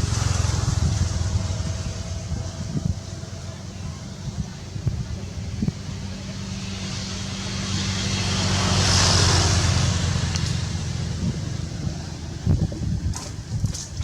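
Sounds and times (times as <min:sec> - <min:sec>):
steady low hum: 0:00.0 - 0:14.0
vehicle road noise passing: 0:00.0 - 0:14.0.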